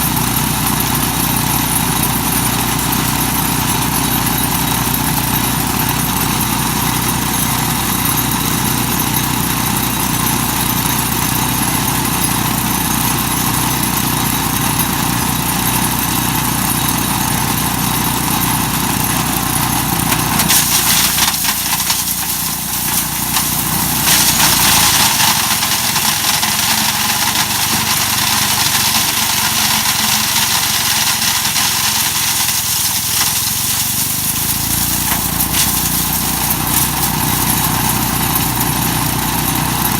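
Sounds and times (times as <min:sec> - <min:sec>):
chipper grinding walnuts: 0:00.0 - 0:39.9
wood chipper engine running: 0:00.0 - 0:39.9.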